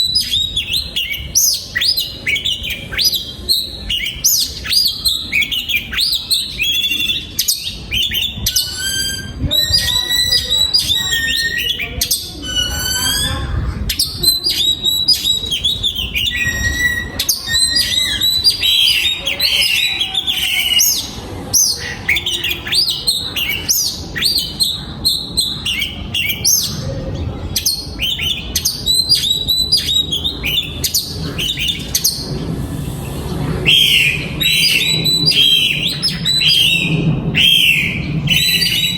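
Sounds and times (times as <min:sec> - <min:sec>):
bird singing: 0:00.0 - 0:27.0, 0:27.6 - 0:32.4, 0:33.6 - 0:38.9.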